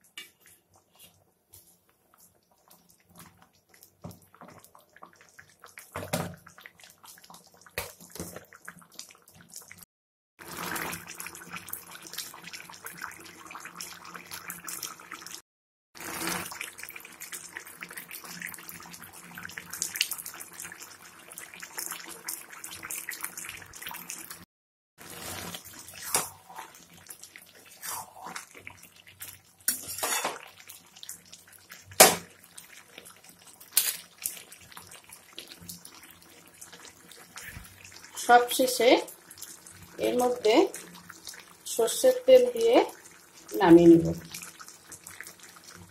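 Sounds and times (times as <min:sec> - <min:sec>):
gravy bubbling in a pan: 0:00.0 - 0:15.4, 0:16.0 - 0:45.9.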